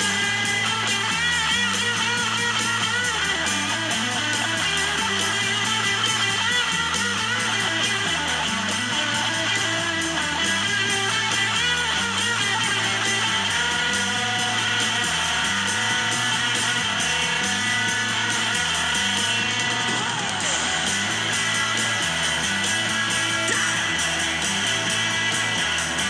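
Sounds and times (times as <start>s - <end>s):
guitar music: 0.0s - 26.0s
repeating bass line: 0.0s - 26.0s.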